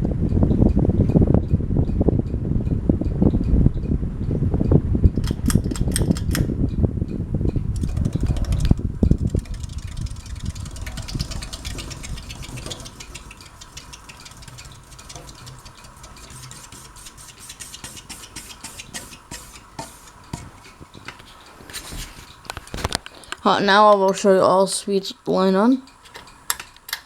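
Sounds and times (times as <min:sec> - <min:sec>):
ceiling fan humming: 0:00.0 - 0:27.0
light rapid ticking: 0:00.0 - 0:27.0.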